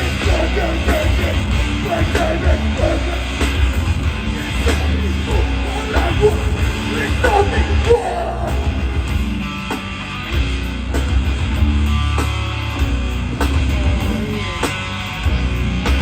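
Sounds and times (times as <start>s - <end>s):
bass guitar: 0.0s - 16.0s
distorted electric guitars: 0.0s - 16.0s.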